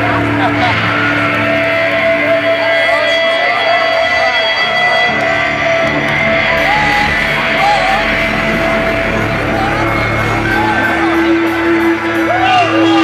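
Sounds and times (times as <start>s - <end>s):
live rock music: 0.0s - 13.0s
voices yelling and singing: 0.0s - 13.0s.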